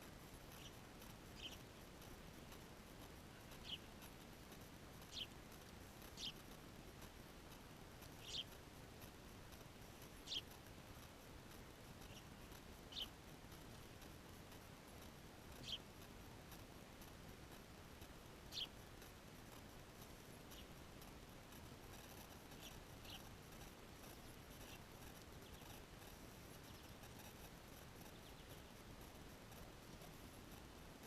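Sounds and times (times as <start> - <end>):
faint steady hiss: 0.0 - 31.0
small birds chirping: 0.1 - 30.8.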